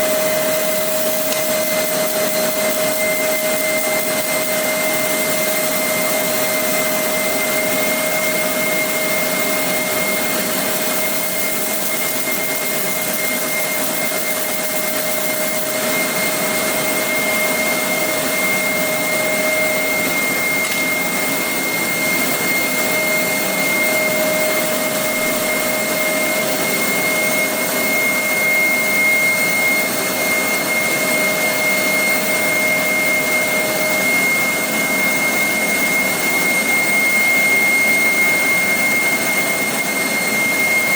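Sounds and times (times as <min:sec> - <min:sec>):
high machine whine: 0:00.0 - 0:40.9.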